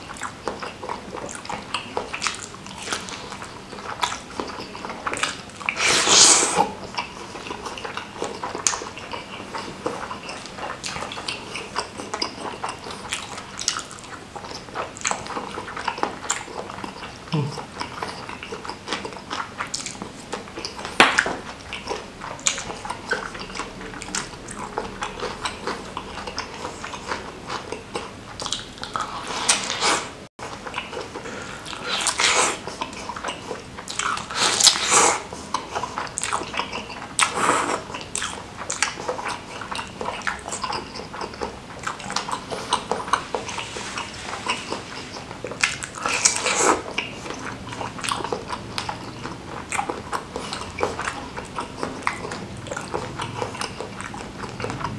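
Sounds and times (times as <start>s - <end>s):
person chewing with wet clicks: 0.0s - 54.9s.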